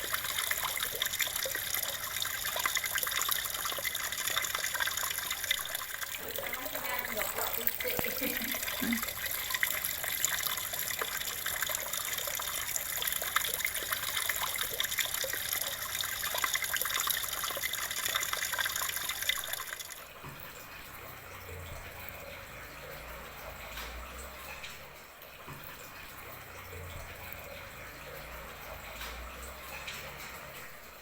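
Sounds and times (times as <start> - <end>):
tap water splashing: 0.0 - 30.7.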